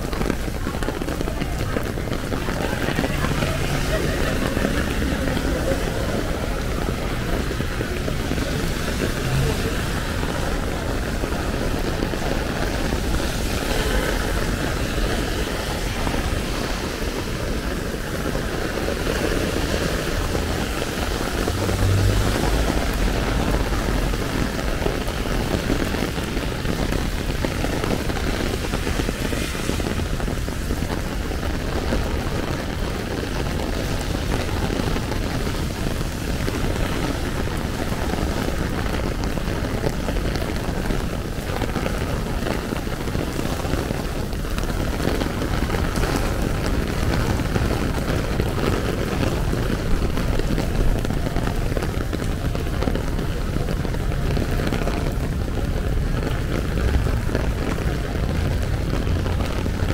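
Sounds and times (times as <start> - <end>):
city street traffic rumble: 0.0 - 59.9
heavy rain on an umbrella: 0.0 - 59.9.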